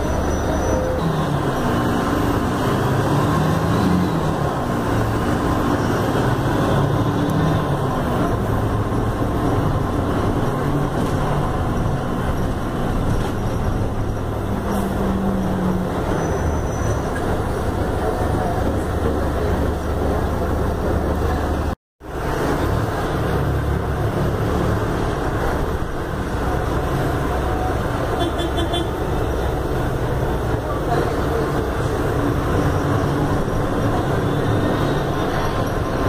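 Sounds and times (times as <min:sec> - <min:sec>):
bus diesel engine running: 0:00.0 - 0:36.0.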